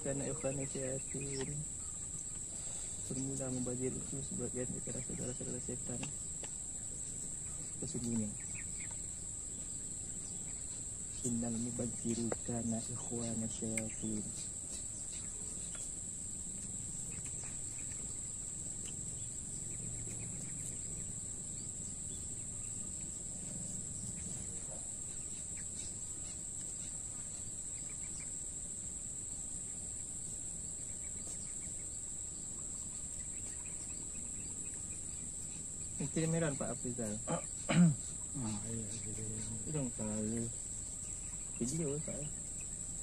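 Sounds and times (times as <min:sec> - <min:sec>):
faint low hum: 0:00.0 - 0:43.0
insects chorus: 0:00.0 - 0:43.0.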